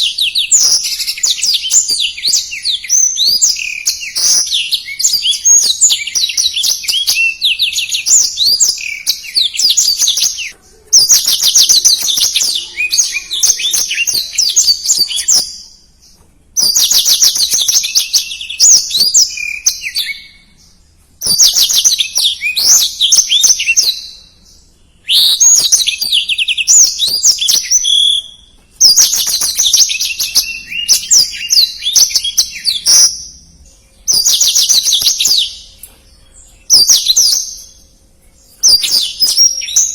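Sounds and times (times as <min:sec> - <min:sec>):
canary singing warbling trills: 0:00.0 - 0:39.9.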